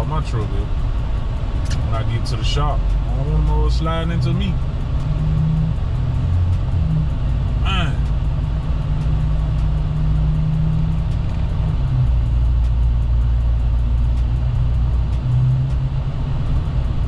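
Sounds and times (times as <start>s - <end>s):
truck engine driving: 0.0s - 17.0s.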